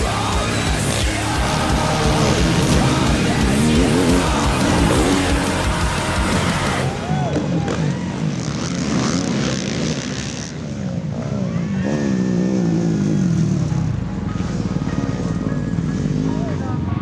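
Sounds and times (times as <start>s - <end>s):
atv engines revving: 0.0s - 17.0s.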